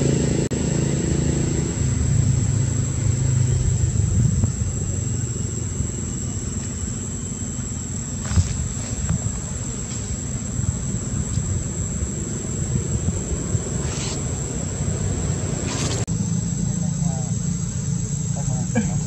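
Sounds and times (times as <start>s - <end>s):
high-pitched whine: 0.0s - 19.0s
steady low rumble: 0.0s - 19.0s.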